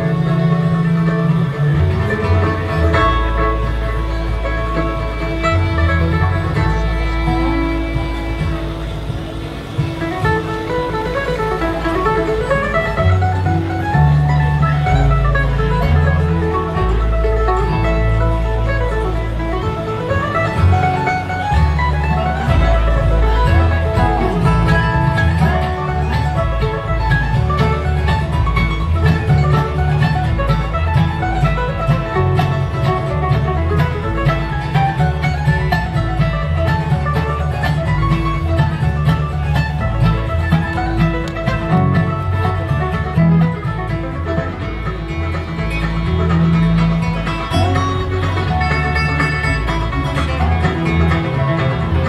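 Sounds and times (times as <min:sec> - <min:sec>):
acoustic guitar: 0:00.0 - 0:52.0
fiddle: 0:00.0 - 0:52.0
mandolin: 0:00.0 - 0:52.0
upright double bass: 0:00.0 - 0:52.0.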